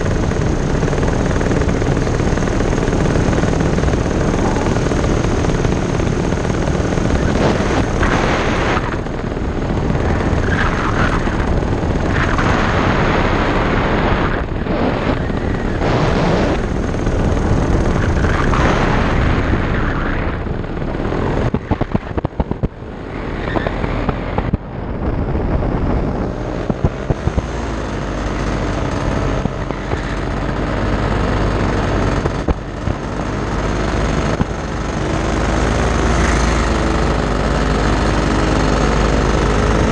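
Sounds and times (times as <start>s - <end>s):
paramotor engine and propeller drone: 0.0s - 39.9s
wind buffeting microphone: 0.0s - 39.9s.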